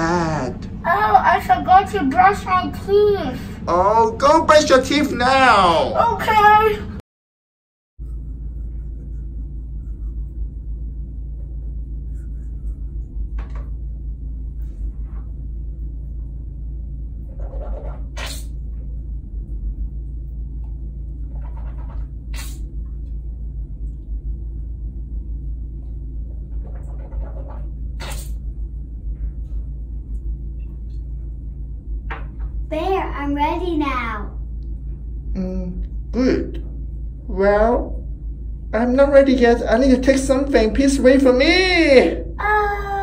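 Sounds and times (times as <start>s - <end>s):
steady low rumble: 0.0s - 7.0s, 8.0s - 43.0s.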